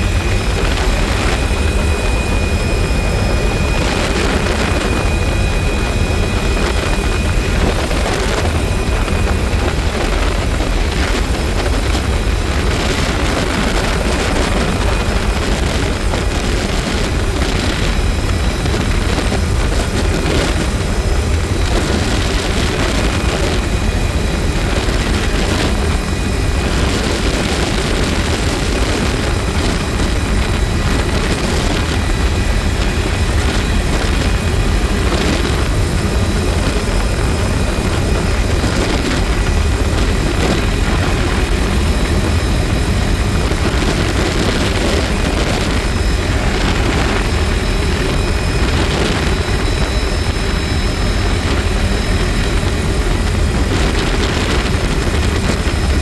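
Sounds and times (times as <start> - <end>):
helicopter rotor and engine: 0.0 - 56.0
wind rushing over microphone: 0.0 - 56.0.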